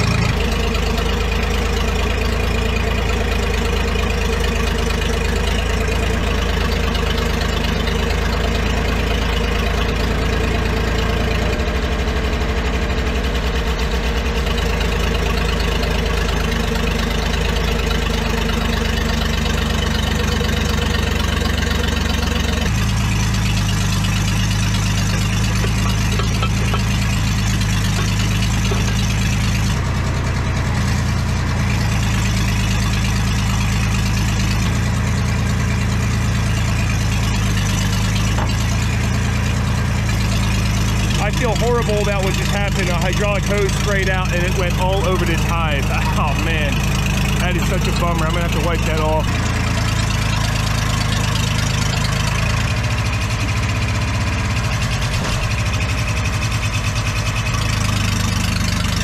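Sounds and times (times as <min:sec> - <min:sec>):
diesel engine running: 0:00.0 - 0:59.0
hydraulics working: 0:00.0 - 0:59.0.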